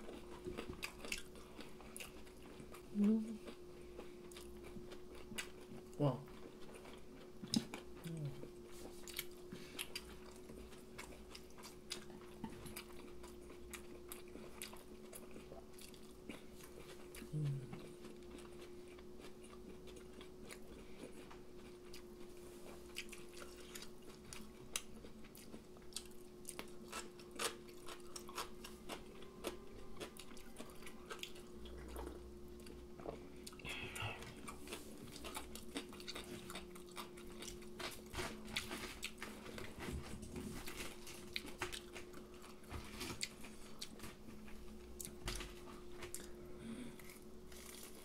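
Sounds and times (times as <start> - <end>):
chewing crispy fried food: 0.0 - 48.0
faint steady hum: 0.0 - 48.0.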